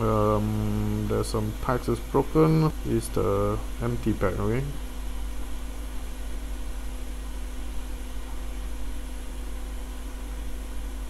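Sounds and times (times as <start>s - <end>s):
equipment hum and hiss: 0.0s - 11.0s
faint constant tone: 0.0s - 11.0s.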